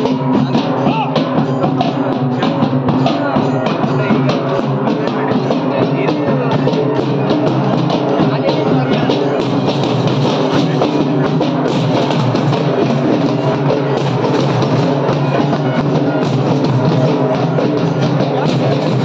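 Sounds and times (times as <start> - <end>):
drummers beating barrel drums: 0.0 - 19.0.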